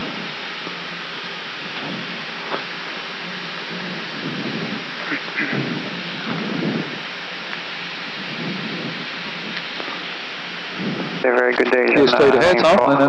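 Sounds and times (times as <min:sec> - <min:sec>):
aircraft cockpit hiss: 0:00.0 - 0:13.0.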